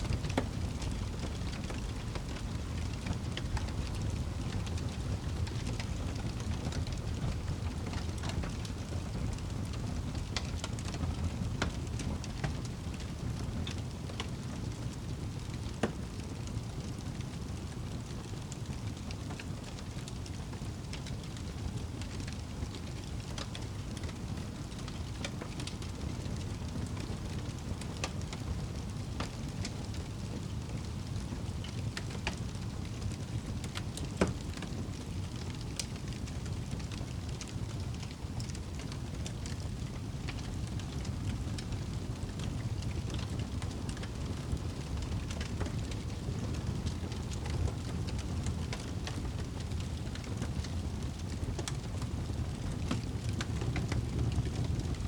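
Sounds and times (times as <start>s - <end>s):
fire crackles and pops: 0.0s - 55.0s
fire rumbling in a fireplace: 0.0s - 55.0s.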